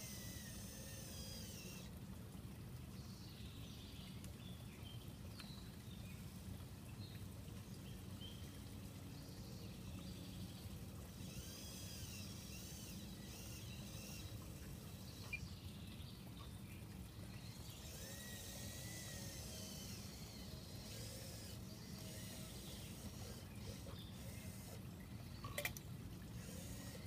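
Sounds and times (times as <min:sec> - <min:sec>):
steady low hum: 0:00.0 - 0:27.0
birds chirping: 0:02.9 - 0:27.0.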